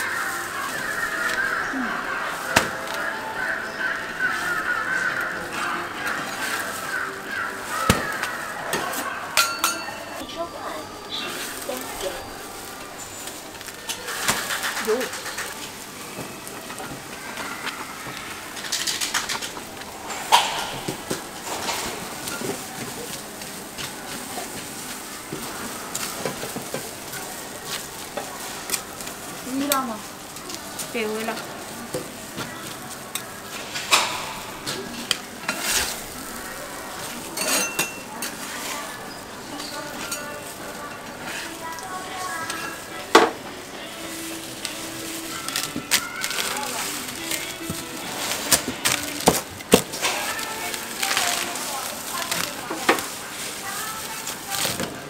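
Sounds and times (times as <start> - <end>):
kitchen noise: 0.0 - 55.0.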